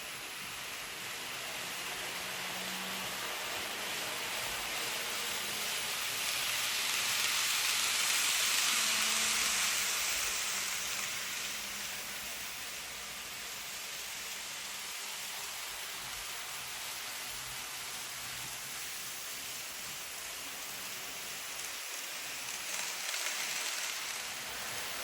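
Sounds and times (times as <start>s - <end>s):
model train whirring on track: 0.0s - 25.0s.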